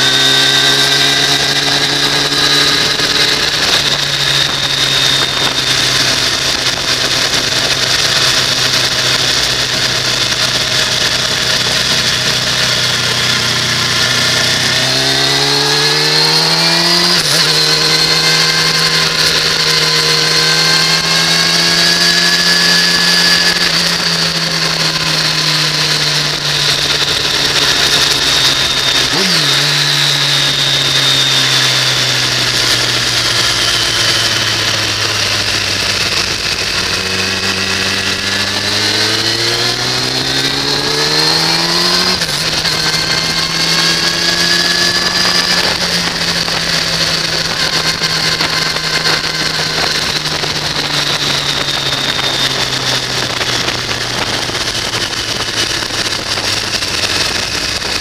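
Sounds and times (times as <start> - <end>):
motorcycle engine revving: 0.0 - 58.0
wind rushing over microphone: 0.0 - 58.0.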